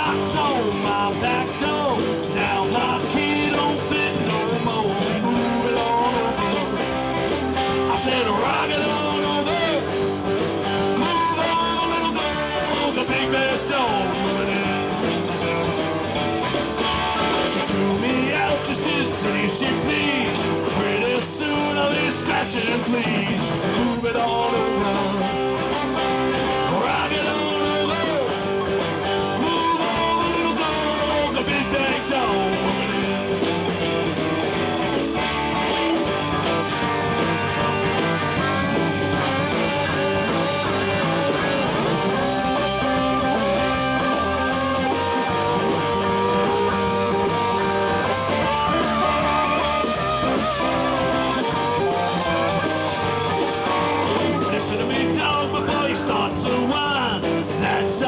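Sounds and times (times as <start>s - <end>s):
bass and drums: 0.0s - 58.0s
electric guitar lead: 0.0s - 58.0s.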